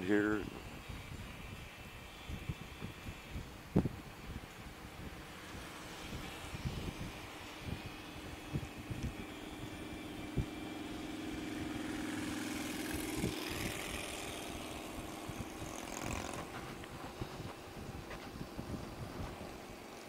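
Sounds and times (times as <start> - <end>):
motorcycle engine hum: 0.0 - 20.0
wind buffeting microphone: 0.0 - 20.0.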